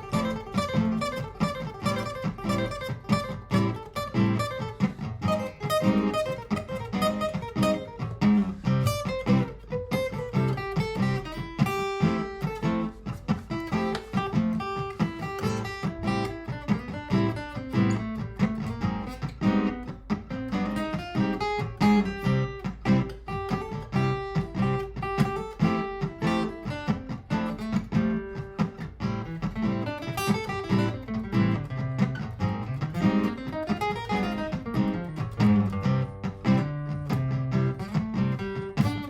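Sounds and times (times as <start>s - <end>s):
acoustic guitar picking and strumming: 0.0s - 39.0s.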